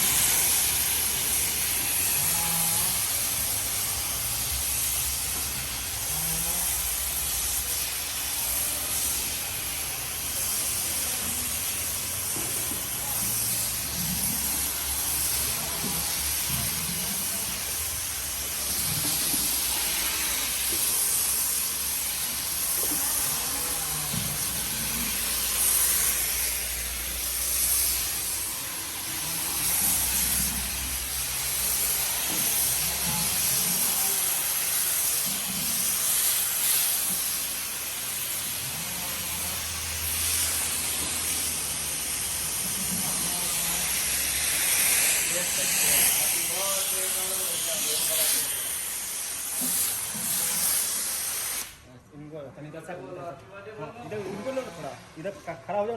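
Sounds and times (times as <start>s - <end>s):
pressure washer spray hiss: 0.0s - 51.8s.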